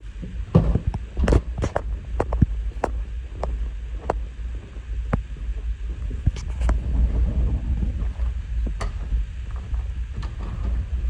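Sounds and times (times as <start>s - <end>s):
wind buffeting microphone: 1.0s - 11.0s.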